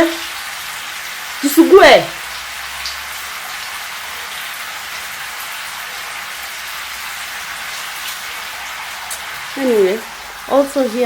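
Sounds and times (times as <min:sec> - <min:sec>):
shower water spraying: 0:00.0 - 0:11.0.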